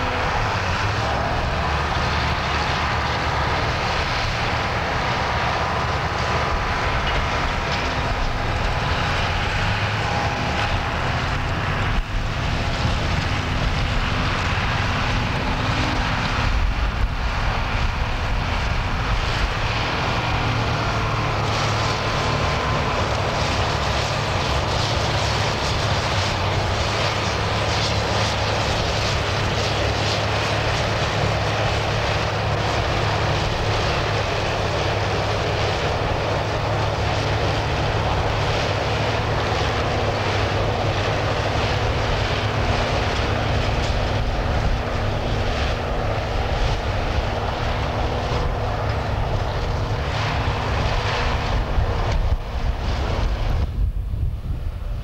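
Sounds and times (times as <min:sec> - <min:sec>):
diesel engines droning under load: 0:00.0 - 0:55.0.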